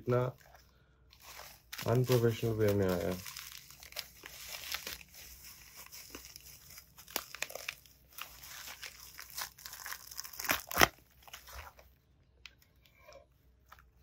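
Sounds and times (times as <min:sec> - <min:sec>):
bubble wrap crinkling: 0:00.0 - 0:12.7.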